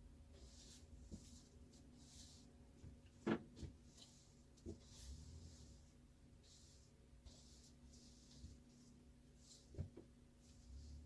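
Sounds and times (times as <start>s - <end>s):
broom sweeping a floor: 0.2s - 11.0s.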